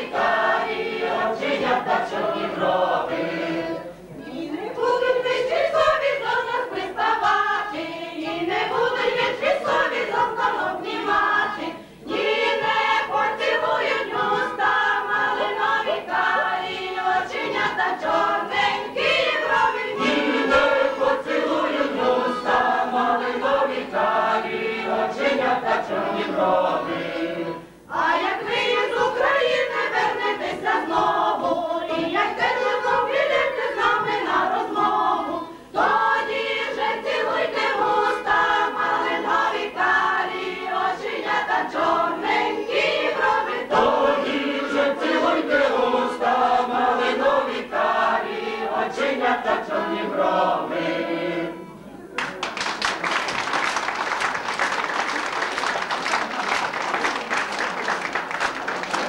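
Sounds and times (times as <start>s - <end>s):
mixed choir singing: 0.0s - 52.1s.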